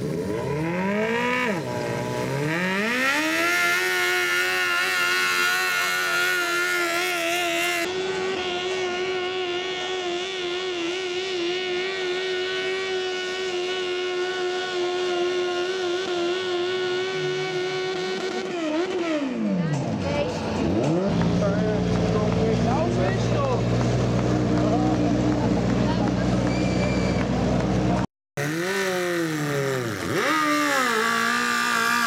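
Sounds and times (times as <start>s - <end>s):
tractor engine revving under load: 0.0s - 32.0s.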